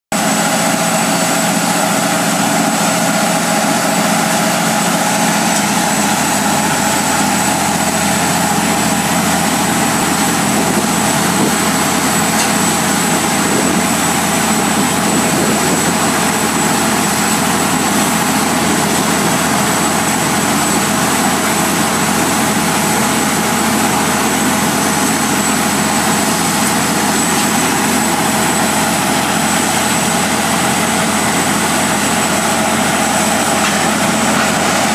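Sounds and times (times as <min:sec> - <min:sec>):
drilling rig mechanical drone: 0:00.1 - 0:34.9.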